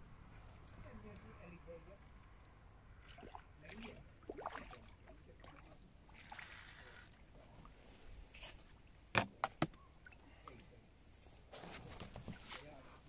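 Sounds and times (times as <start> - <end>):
water splashing and sloshing: 2.1 - 13.0.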